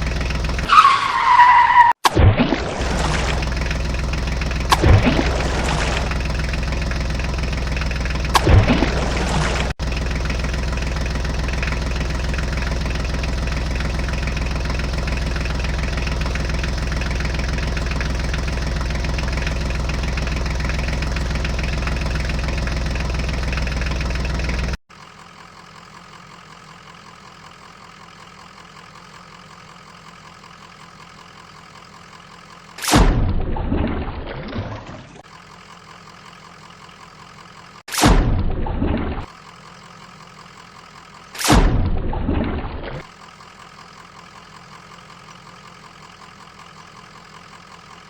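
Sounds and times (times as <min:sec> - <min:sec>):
engine idling: 0:00.0 - 0:01.4, 0:02.8 - 0:34.4, 0:35.1 - 0:48.0.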